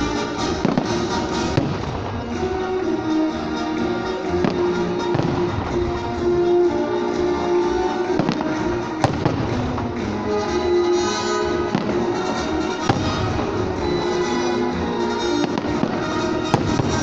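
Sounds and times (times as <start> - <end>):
fireworks bursting: 0.0 - 17.0
music with long held notes: 0.0 - 17.0.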